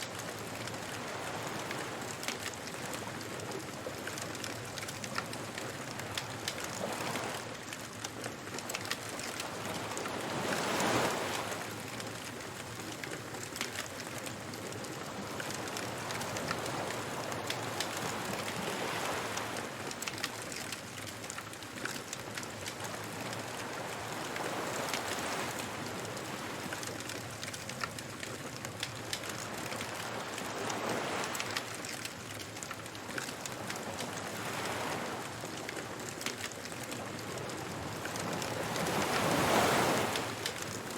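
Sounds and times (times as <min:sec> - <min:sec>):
waves washing ashore: 0:00.0 - 0:40.9
bonfire crackling and popping: 0:00.1 - 0:25.4, 0:26.0 - 0:40.9.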